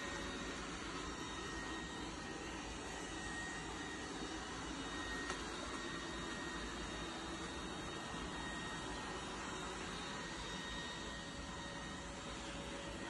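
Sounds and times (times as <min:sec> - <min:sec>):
robot vacuum running: 0:00.0 - 0:13.0.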